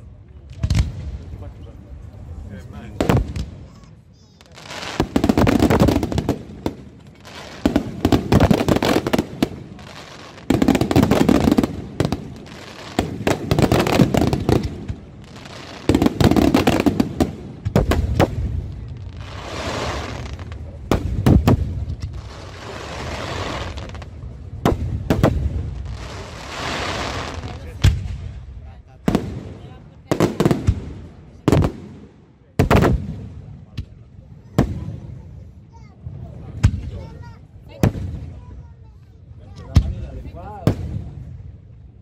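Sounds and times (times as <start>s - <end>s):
fireworks crackling: 0.0s - 41.4s
fireworks bursting with bangs: 0.4s - 1.5s, 2.6s - 41.8s.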